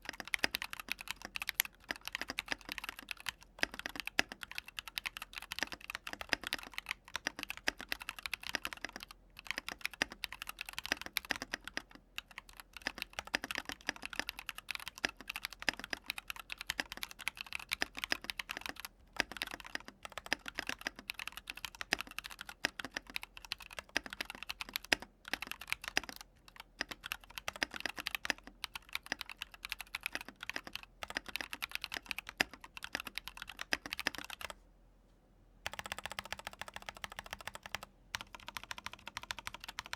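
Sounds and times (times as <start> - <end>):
typing on mechanical keyboard: 0.0 - 34.6, 35.7 - 39.9.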